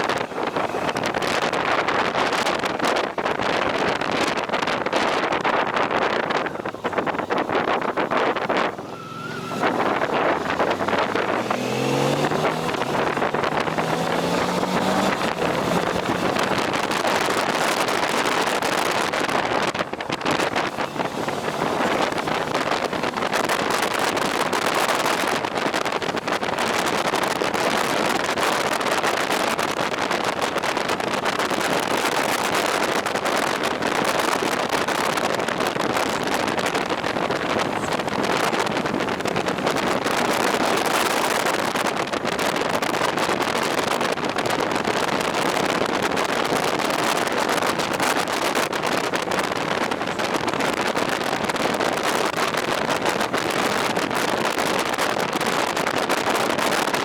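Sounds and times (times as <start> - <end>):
road noise: 0.0 - 57.0
wind rushing on microphone: 0.0 - 57.0.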